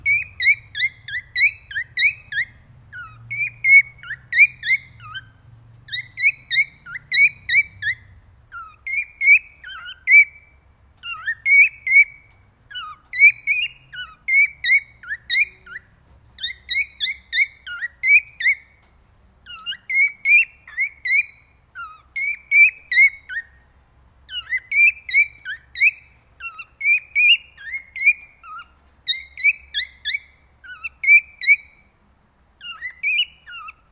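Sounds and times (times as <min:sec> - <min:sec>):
cockatiel whistling song: 0:00.0 - 0:18.8, 0:19.4 - 0:23.6, 0:24.3 - 0:31.9, 0:32.6 - 0:33.9.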